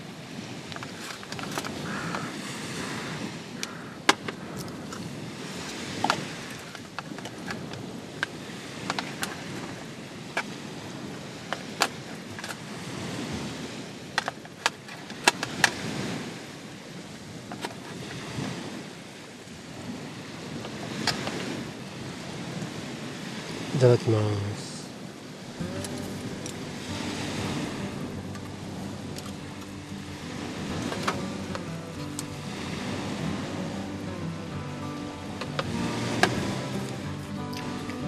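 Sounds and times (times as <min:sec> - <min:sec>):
surf: 0:00.0 - 0:38.0
wind: 0:00.0 - 0:38.0.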